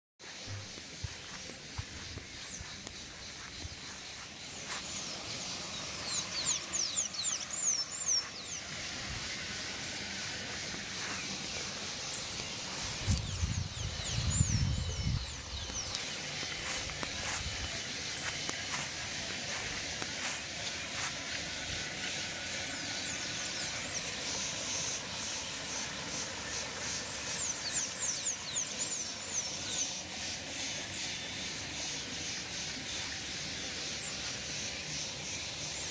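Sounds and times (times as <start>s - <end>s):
high insect-like tone: 0.2s - 35.9s.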